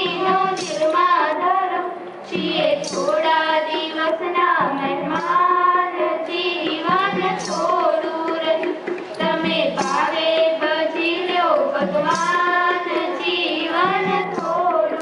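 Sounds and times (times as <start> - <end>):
girls singing together: 0.0 - 15.0
tabla: 0.0 - 15.0.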